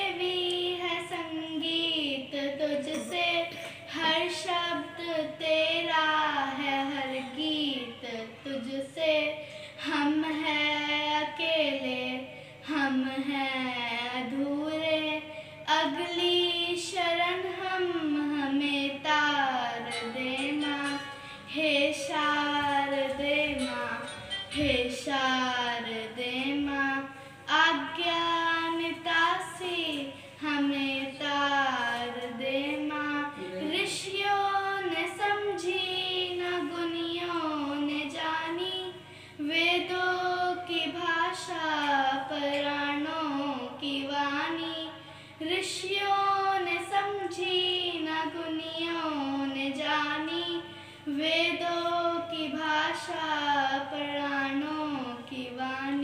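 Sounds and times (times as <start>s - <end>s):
girl singing into a microphone: 0.0s - 56.0s.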